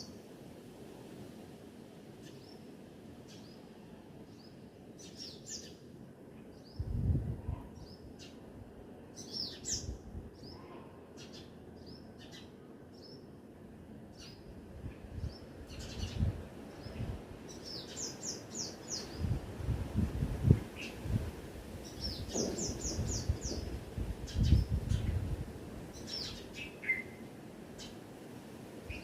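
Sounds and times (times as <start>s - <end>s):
songbirds chirping: 1.8s - 29.0s.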